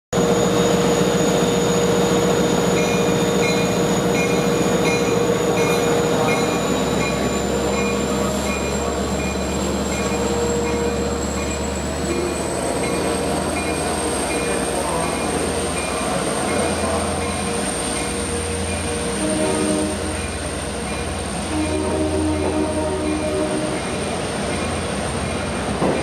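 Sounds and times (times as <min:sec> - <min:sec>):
diesel locomotive engine: 0:00.1 - 0:26.0.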